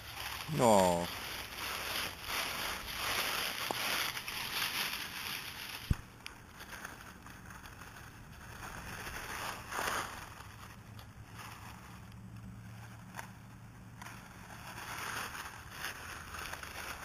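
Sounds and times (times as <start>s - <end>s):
dry leaves crunching and rustling: 0.0s - 17.0s.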